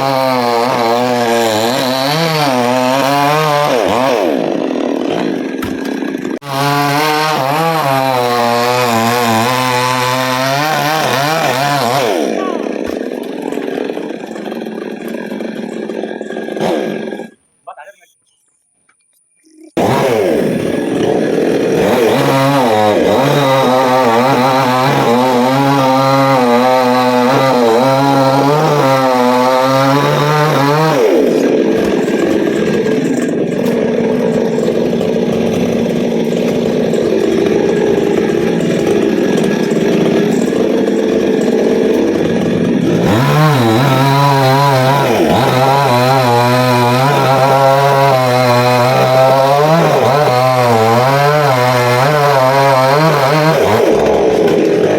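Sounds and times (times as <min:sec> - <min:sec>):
chainsaw cutting wood: 0:00.0 - 0:17.5, 0:19.0 - 0:54.9.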